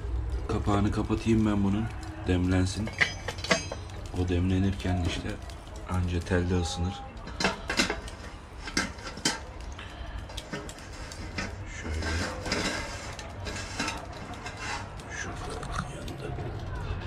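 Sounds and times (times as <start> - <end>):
metal grill grate clinking: 1.0 - 15.9.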